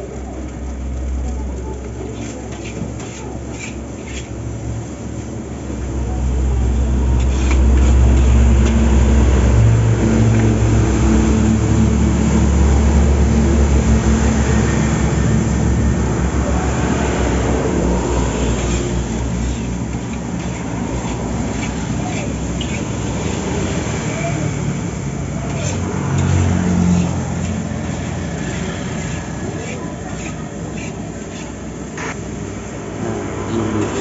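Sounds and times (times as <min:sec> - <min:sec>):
spatula scraping a wok: 0:01.8 - 0:05.2, 0:06.9 - 0:34.0.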